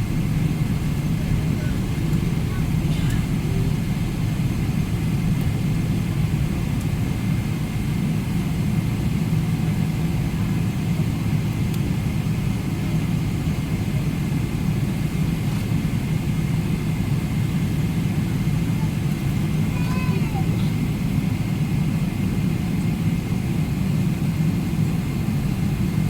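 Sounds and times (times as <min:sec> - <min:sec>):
airplane cabin engine drone: 0:00.0 - 0:26.0.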